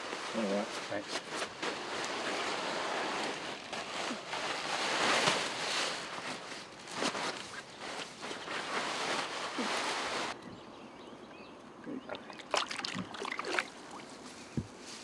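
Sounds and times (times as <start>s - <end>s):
mat rustling and crackling: 0.0s - 10.4s, 12.5s - 15.0s.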